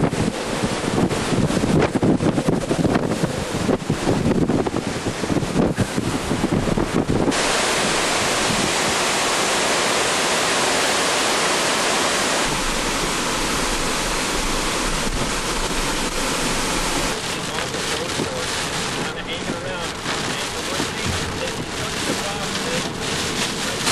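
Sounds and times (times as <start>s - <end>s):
wind buffeting microphone: 0.0s - 9.5s, 12.4s - 23.9s
wind-driven rain hissing: 0.0s - 23.9s.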